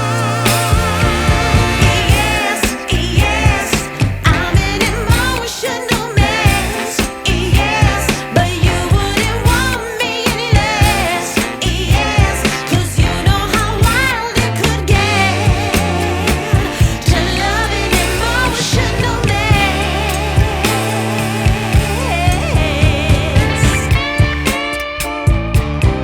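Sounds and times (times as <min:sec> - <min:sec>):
person singing over a band: 0:00.0 - 0:24.4.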